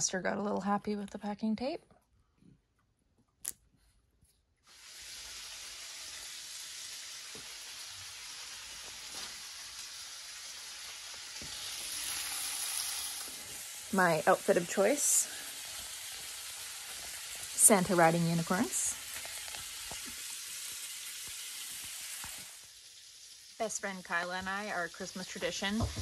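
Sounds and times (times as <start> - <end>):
sausages sizzling in frying pan: 4.7 - 26.0.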